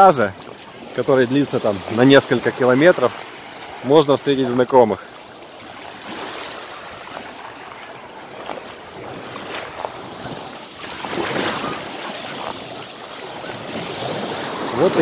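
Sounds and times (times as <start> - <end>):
waves washing up a beach: 0.0 - 15.0.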